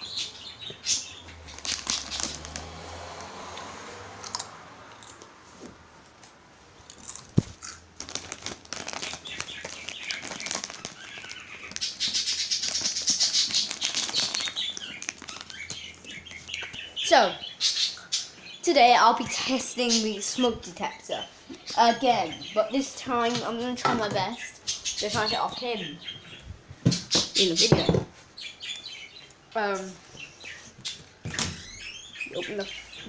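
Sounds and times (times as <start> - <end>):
bird chirping and tweeting: 0.0 - 2.9, 9.0 - 33.0.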